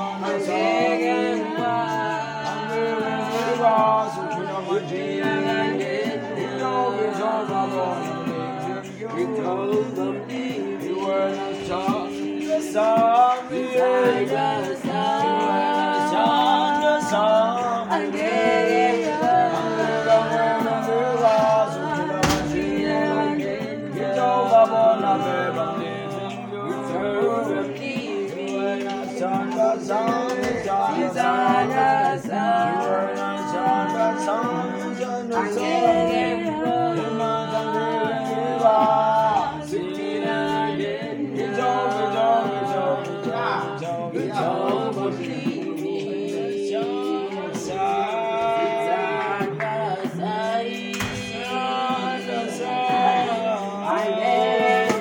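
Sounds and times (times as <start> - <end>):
men singing in harmony: 0.0 - 55.0.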